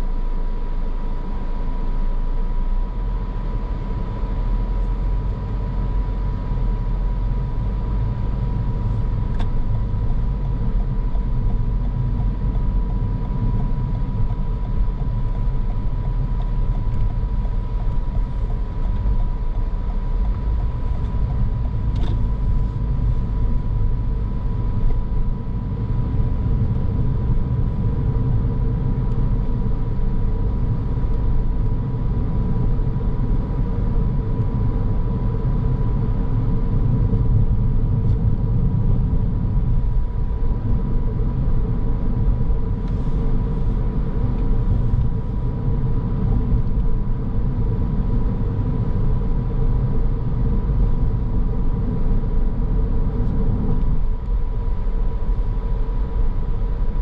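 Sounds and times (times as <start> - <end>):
car engine and road rumble: 0.0 - 57.0
thin steady whine: 0.0 - 57.0.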